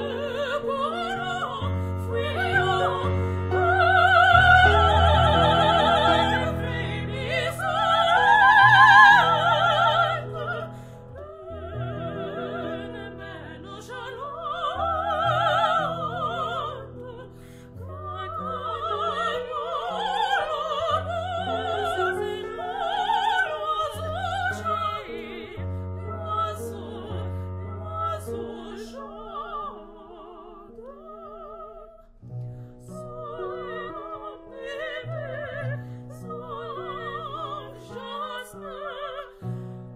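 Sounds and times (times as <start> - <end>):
operatic singing: 0.0 - 32.2, 32.8 - 39.7.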